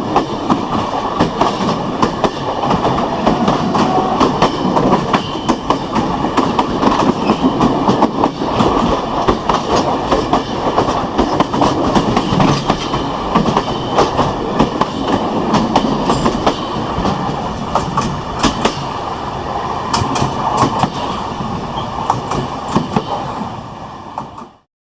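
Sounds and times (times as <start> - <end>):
wheels clacking over rail joints: 0.0 - 19.0, 19.9 - 23.4
railway wheels rumbling: 0.0 - 24.7.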